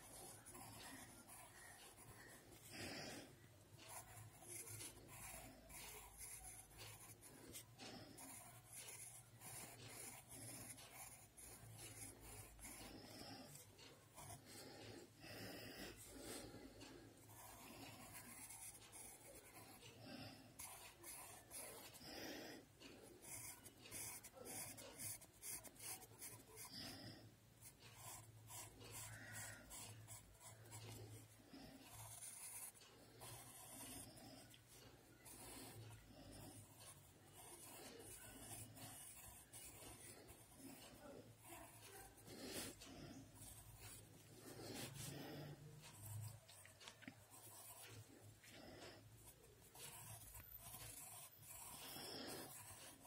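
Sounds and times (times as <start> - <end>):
pencil scratching on paper: 0.0 - 53.0.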